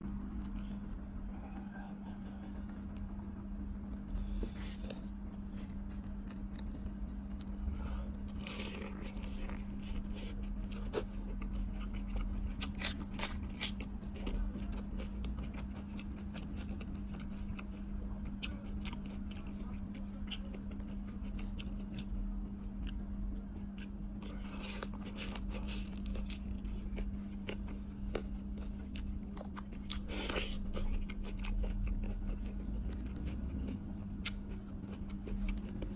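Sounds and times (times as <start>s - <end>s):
steady low hum: 0.0s - 35.9s
seafood crunching and cracking: 0.2s - 35.9s.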